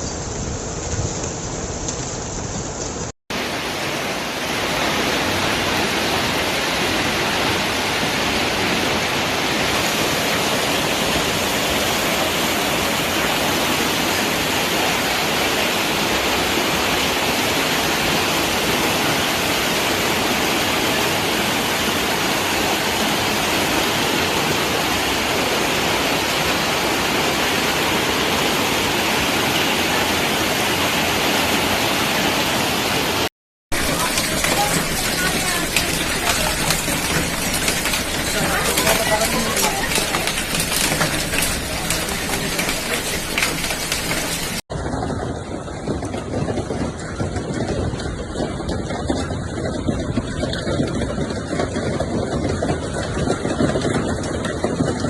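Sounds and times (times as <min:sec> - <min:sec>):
heavy rain with hail: 0:00.0 - 0:55.0.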